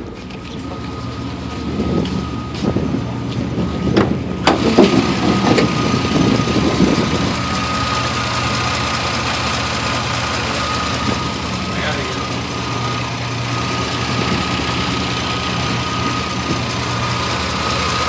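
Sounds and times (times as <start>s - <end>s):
engine idling: 0.0s - 18.0s
engine ticking: 0.0s - 18.0s.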